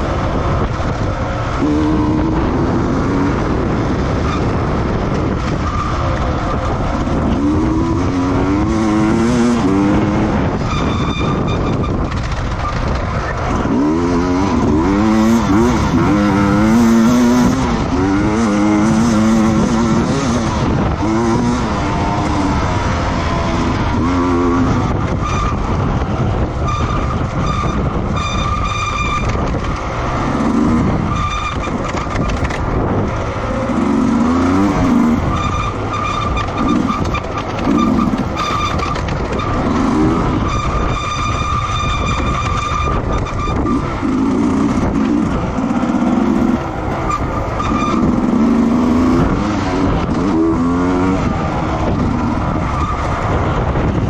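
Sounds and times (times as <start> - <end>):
racing motorcycles passing by: 0.0 - 54.0.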